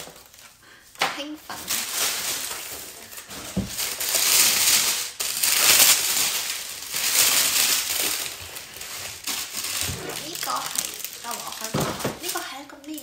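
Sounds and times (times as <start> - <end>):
tissue paper rustling: 0.0 - 0.6, 1.4 - 13.0.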